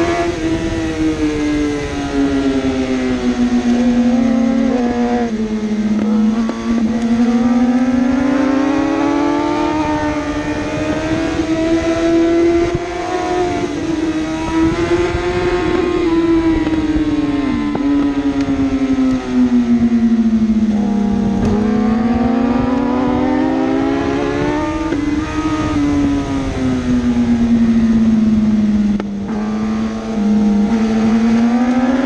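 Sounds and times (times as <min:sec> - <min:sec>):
superbike engine revving hard: 0:00.0 - 0:32.0.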